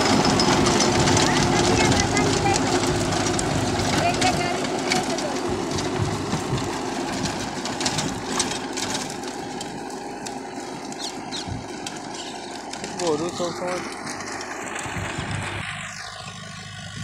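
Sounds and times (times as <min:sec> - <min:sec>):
rotavator churning soil: 0:00.0 - 0:17.0
tractor diesel engine under load: 0:00.0 - 0:17.0.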